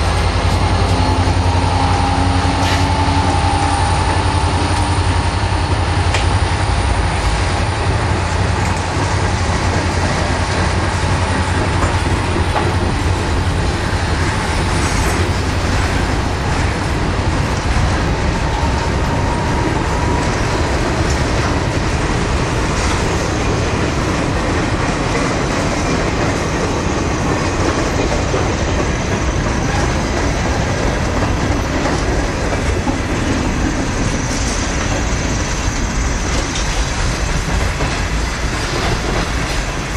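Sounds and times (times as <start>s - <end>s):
train rumble: 0.0s - 39.9s
train wheels clacking over rail joints: 0.0s - 39.9s.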